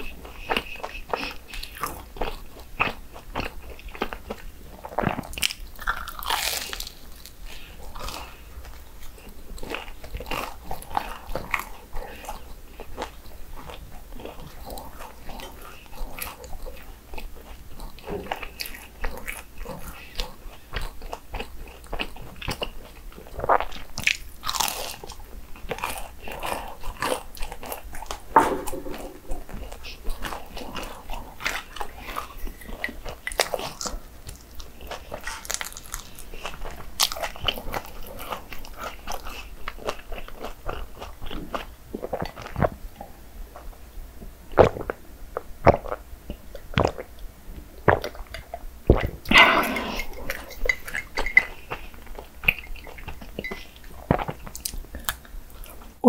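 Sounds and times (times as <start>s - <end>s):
crisp chewing crunches: 0.0s - 28.8s, 29.6s - 43.7s, 47.8s - 55.9s.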